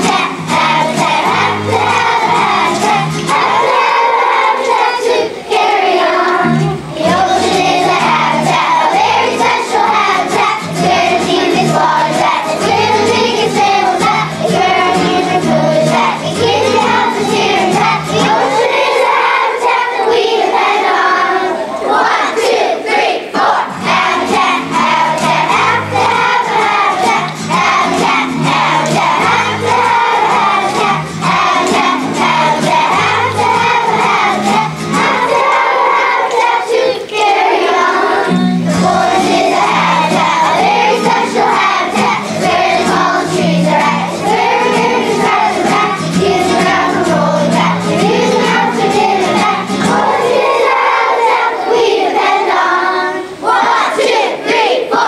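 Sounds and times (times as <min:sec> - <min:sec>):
children singing together: 0:00.0 - 0:55.0.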